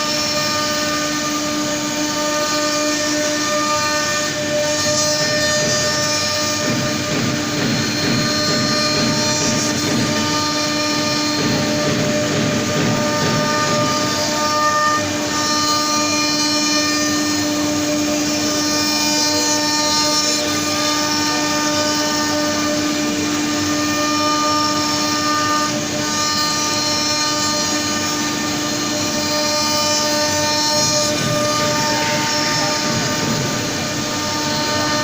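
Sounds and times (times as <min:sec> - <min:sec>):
wood router spindle whine: 0:00.0 - 0:35.0.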